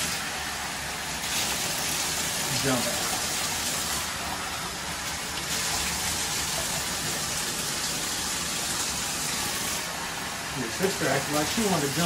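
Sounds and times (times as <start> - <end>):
water running into a bathtub: 0.0 - 12.0
water splashing: 0.0 - 12.0.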